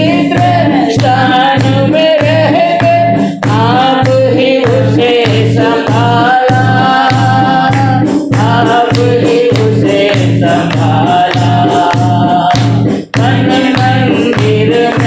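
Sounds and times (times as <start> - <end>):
worship song singing: 0.0 - 15.0.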